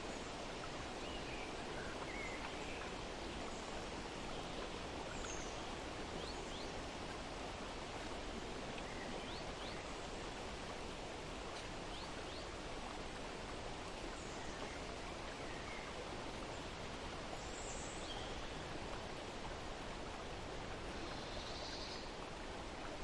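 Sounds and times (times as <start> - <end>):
running water: 0.0 - 23.0.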